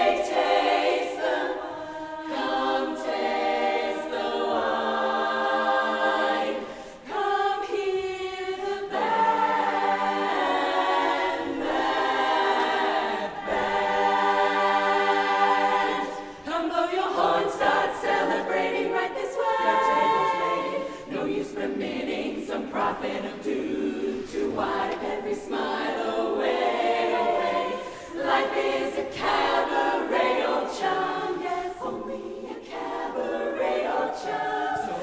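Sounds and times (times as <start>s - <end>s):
choir singing a cappella: 0.0s - 35.0s.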